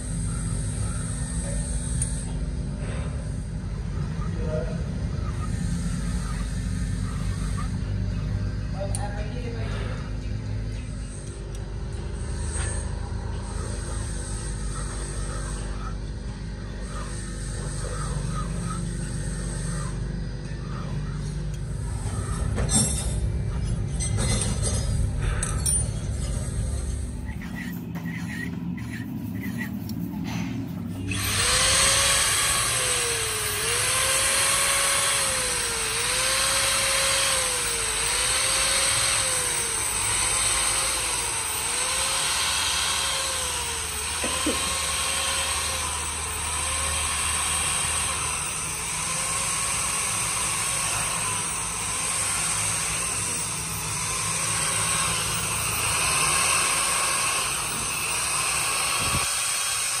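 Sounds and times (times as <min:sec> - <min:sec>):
electric drill motor whine: 0:00.0 - 0:29.6, 0:30.2 - 1:00.0.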